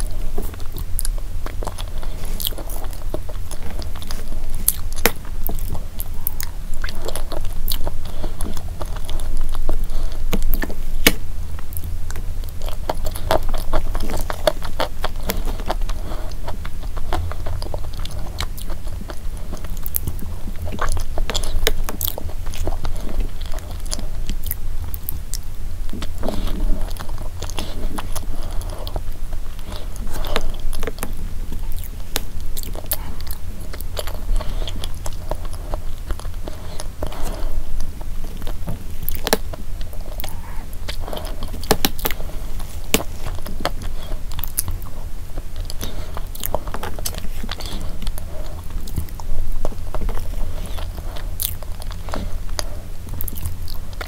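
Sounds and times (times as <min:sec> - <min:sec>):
wet chewing and mouth smacks: 0:00.0 - 0:54.0.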